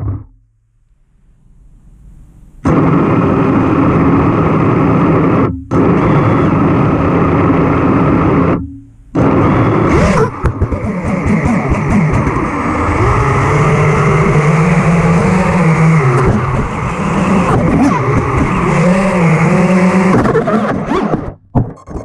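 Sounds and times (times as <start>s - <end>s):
drone motors and propellers spinning: 2.6s - 21.4s.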